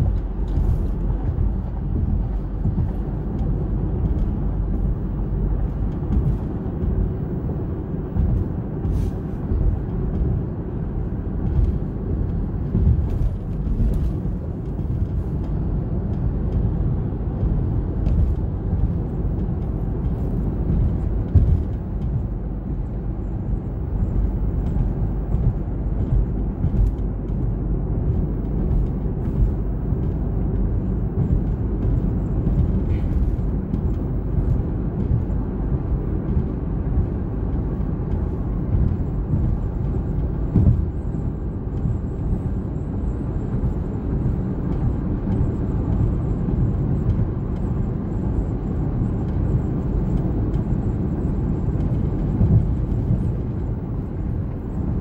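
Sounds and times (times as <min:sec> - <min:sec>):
car road noise rumble: 0:00.0 - 0:55.0.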